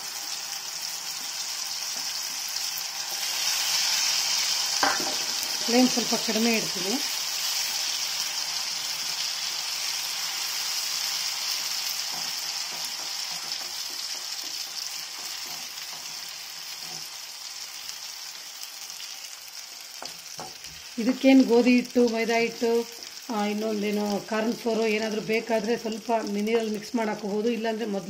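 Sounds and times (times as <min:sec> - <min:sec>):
fruit pulp sizzling in a pan: 0:00.0 - 0:28.0.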